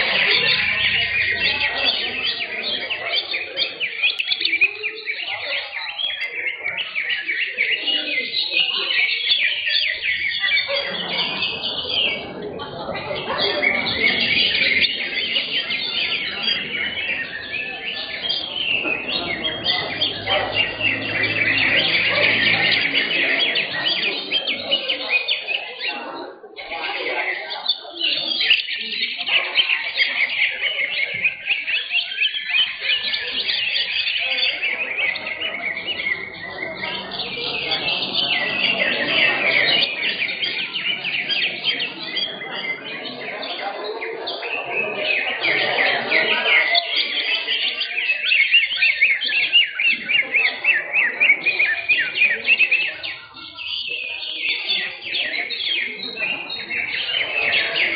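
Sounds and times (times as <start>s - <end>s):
birds chirping and whistling: 0.0s - 57.9s
murmur of people: 0.0s - 57.9s.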